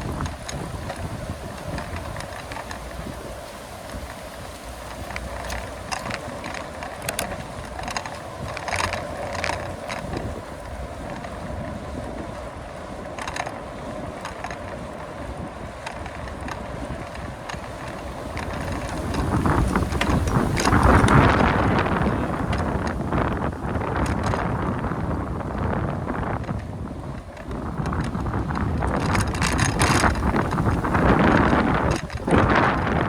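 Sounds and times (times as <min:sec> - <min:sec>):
bicycle chain and frame rattling: 0:00.0 - 0:33.0
road noise: 0:00.0 - 0:33.0
wind noise on microphone: 0:00.0 - 0:33.0.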